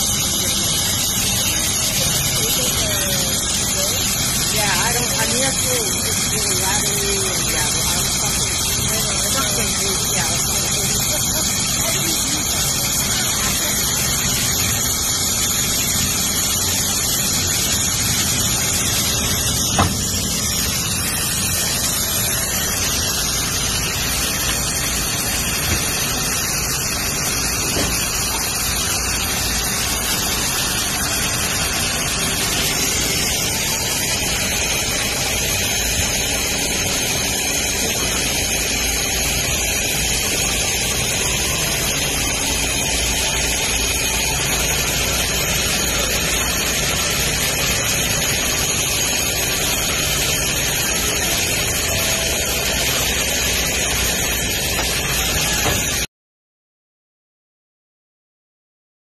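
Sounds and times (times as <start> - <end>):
sewing machine running: 0.0 - 56.1.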